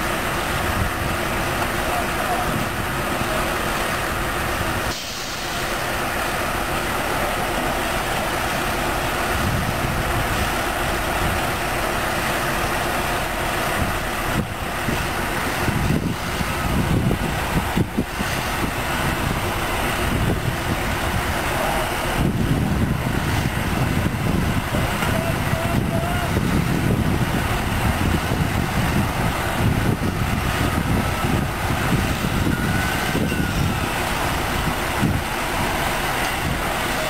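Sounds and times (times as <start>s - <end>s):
heavy diesel engines running: 0.0s - 37.0s.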